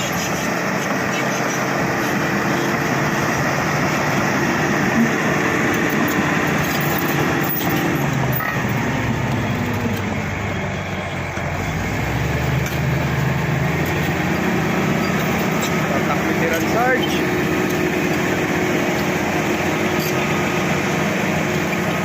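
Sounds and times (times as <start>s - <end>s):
bulldozer diesel engine under load: 0.0s - 22.0s.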